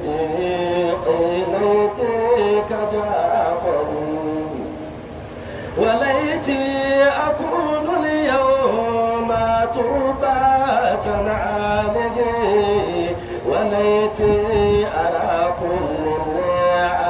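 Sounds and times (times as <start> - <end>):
man chanting unaccompanied: 0.0 - 5.0, 5.7 - 17.0.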